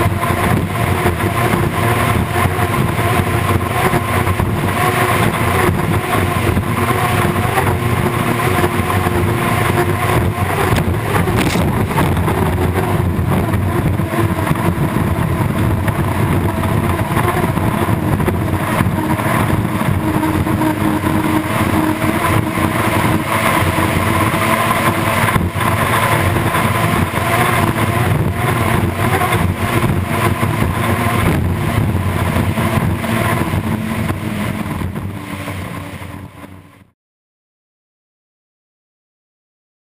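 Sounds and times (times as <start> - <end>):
wind rushing: 0.0 - 36.4
turbine engine whine: 0.0 - 37.0.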